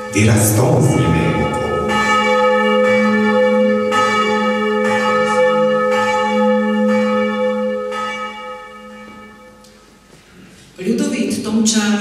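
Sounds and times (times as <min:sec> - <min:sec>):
church bell ringing: 0:00.0 - 0:10.0.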